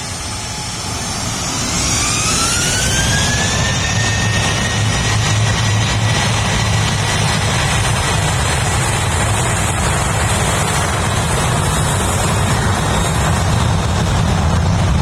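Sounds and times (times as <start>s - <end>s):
high steady whine: 0.0s - 15.0s
jet engines running: 0.0s - 15.0s.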